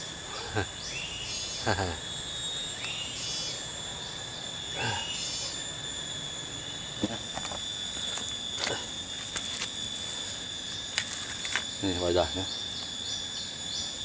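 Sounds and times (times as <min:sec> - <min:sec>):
cicadas and crickets droning: 0:00.0 - 0:14.0.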